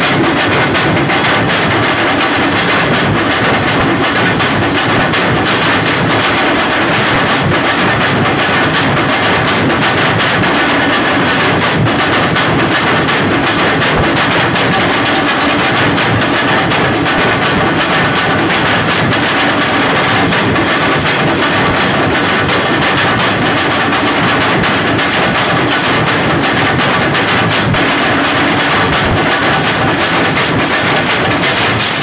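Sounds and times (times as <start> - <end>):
barrel drums beaten fast: 0.0 - 32.0.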